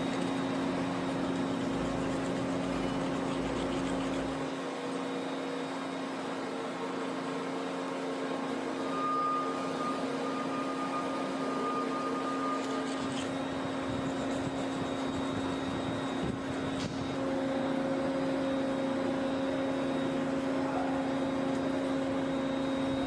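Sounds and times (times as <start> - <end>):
machine humming: 0.0 - 7.1, 7.9 - 23.0
thin high whine: 0.0 - 23.0.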